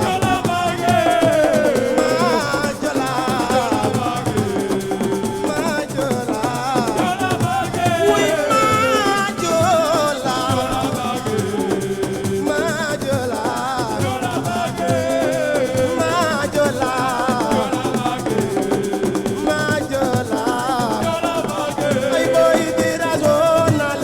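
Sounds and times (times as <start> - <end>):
percussion: 0.0 - 24.0
person singing: 0.0 - 24.0
shaker rattling: 0.0 - 24.0.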